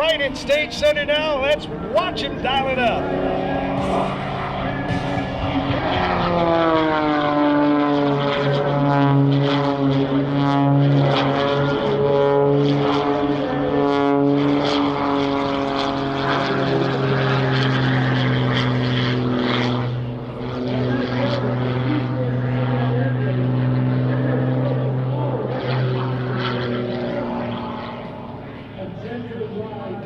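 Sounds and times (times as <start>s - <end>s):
plane propeller engine droning: 0.0s - 30.0s.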